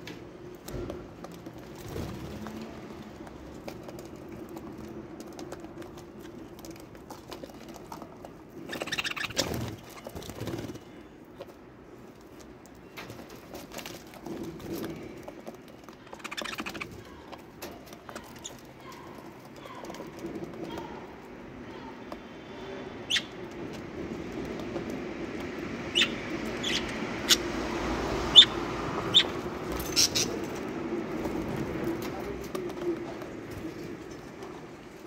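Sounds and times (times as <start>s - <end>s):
birds' beaks picking seed: 0.0s - 34.9s.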